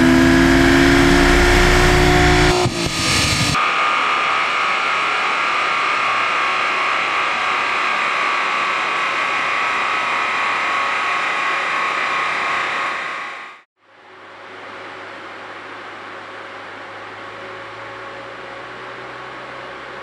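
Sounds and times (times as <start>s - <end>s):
cooling fan blowing with whine: 0.0s - 20.0s.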